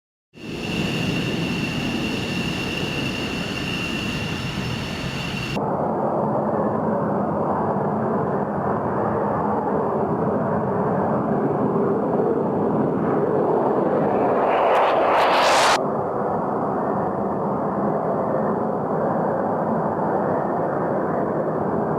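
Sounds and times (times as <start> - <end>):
jet engine roar: 0.4 - 21.8
jet engine whine: 0.4 - 21.9.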